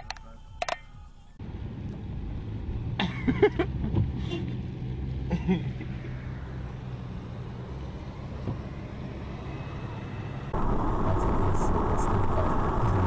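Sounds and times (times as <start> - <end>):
car cabin road and engine rumble: 0.0 - 13.0
hissy car drive noise at speed: 0.2 - 13.0.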